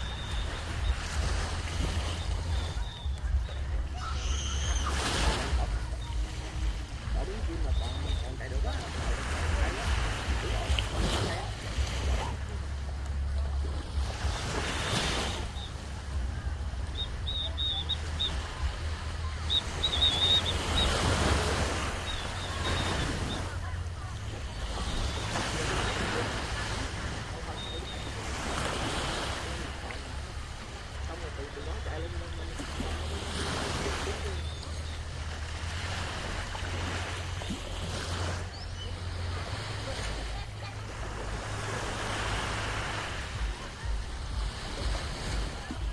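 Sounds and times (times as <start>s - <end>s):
distant crowd chatter: 0.0s - 45.9s
surf washing on beach: 0.0s - 45.9s
wind rumbling on microphone: 0.0s - 45.9s.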